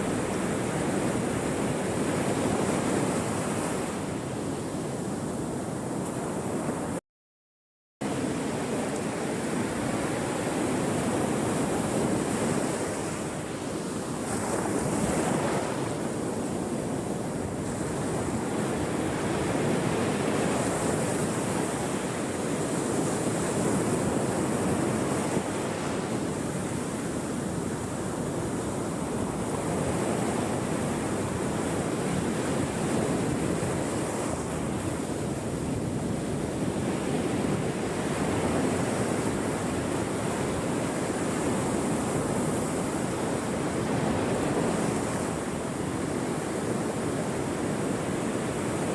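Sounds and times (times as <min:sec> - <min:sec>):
ocean waves washing ashore: 0:00.0 - 0:07.0, 0:08.0 - 0:48.9.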